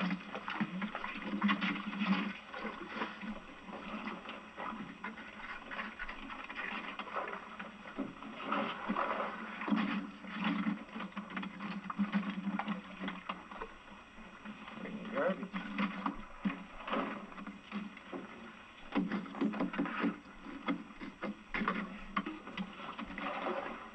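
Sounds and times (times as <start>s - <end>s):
wind: 0.0s - 23.9s.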